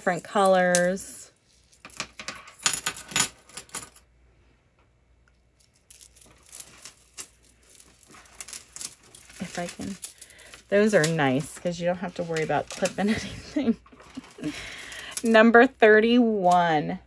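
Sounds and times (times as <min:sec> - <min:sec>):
beads clicking and rattling: 0:00.0 - 0:03.9, 0:05.4 - 0:15.5.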